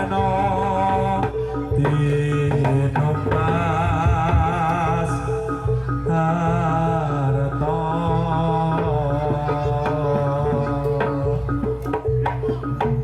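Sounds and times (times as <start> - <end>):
drum strokes: 0.0 - 13.0.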